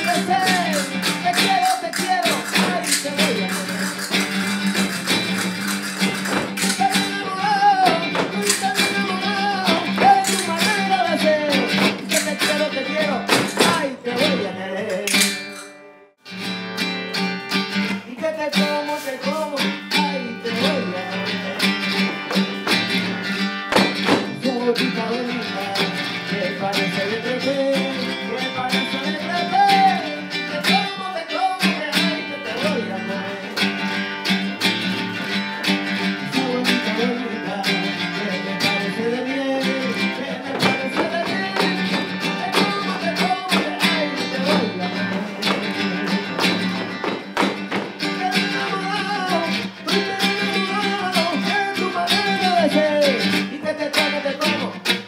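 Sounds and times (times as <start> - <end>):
man singing: 0.0 - 15.7, 17.9 - 34.0, 35.8 - 55.0
flamenco guitar: 0.0 - 55.0.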